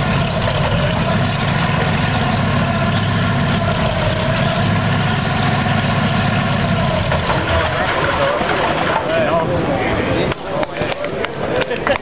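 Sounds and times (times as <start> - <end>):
radial engine idling: 0.0 - 12.0.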